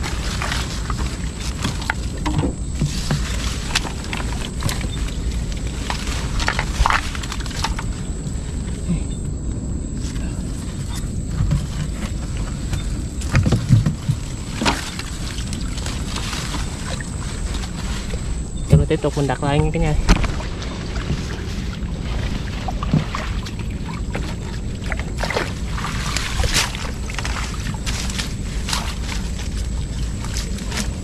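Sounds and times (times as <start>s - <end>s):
water sloshing and splashing: 0.0s - 9.2s, 9.8s - 31.0s
low rumble: 0.0s - 31.0s.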